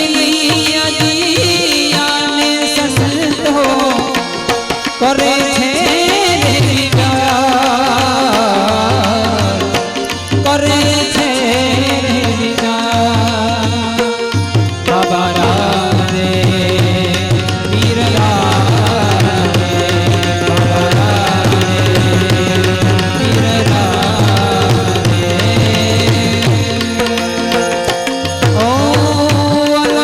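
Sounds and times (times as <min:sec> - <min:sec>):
tabla rhythm: 0:00.0 - 0:30.0.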